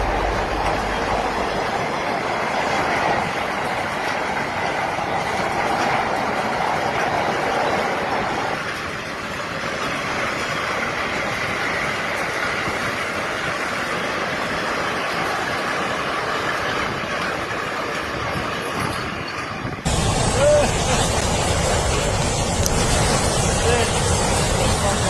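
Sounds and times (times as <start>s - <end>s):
freight train wheels rumbling on rails: 0.0s - 25.0s.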